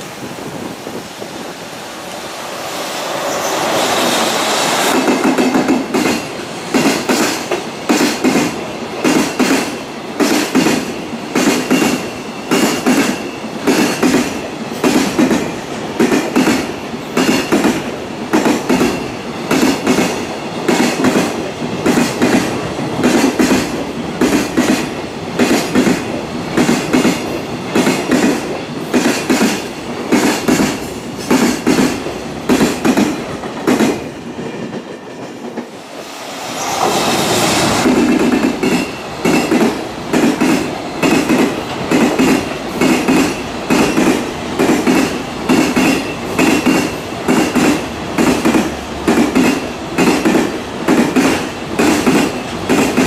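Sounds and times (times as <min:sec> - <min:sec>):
freight train passing: 0:00.0 - 0:53.0
wheels clickety-clack on rail joints: 0:04.8 - 0:53.0.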